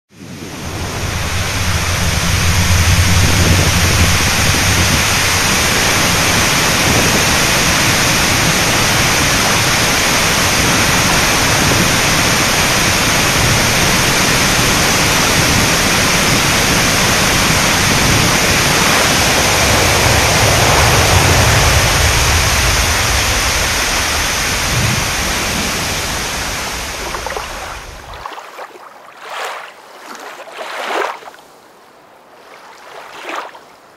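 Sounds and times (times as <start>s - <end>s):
low rumble: 0.2s - 28.2s
water rushing over weir: 0.2s - 33.9s.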